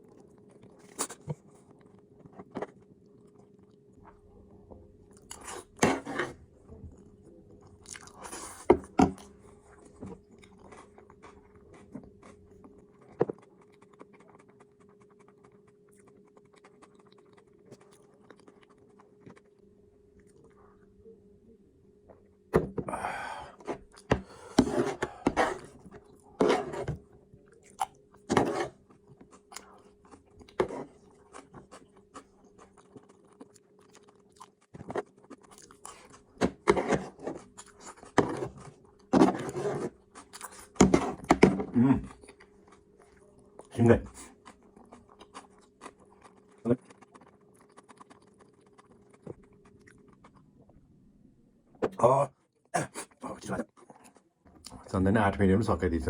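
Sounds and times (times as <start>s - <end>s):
person chewing and crunching food: 0.0s - 21.2s, 22.2s - 51.0s, 52.9s - 54.9s
faint steady hum: 0.0s - 56.0s.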